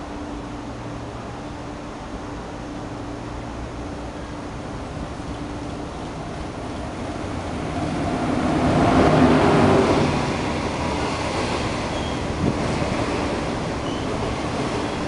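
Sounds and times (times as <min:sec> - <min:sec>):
electric locomotive passing: 0:00.0 - 0:15.0
train coaches rumbling by: 0:00.0 - 0:15.0.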